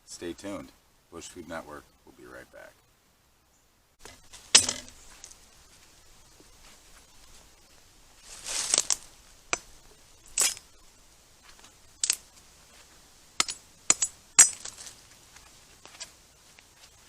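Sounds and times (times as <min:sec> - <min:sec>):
rustle: 0:00.0 - 0:17.0.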